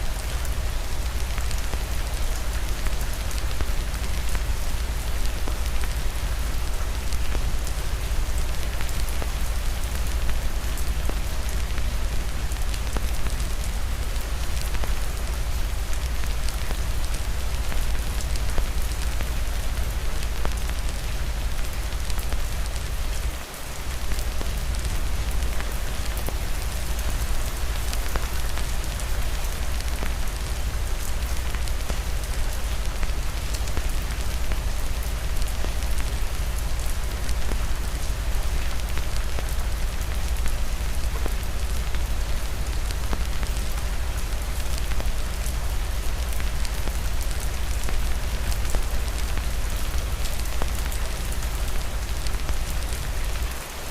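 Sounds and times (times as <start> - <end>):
steady rain: 0.0 - 53.9.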